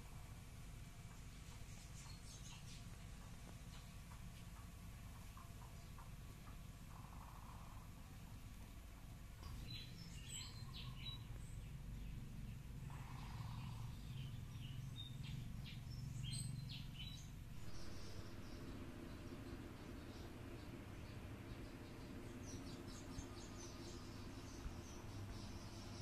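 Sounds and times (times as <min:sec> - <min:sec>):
low steady hum: 0:00.0 - 0:26.0
faint bird chirps: 0:01.0 - 0:26.0.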